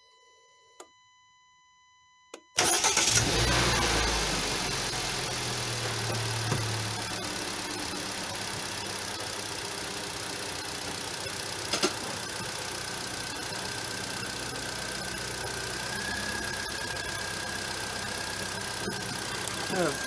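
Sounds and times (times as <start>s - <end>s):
car engine idling: 2.6s - 20.0s.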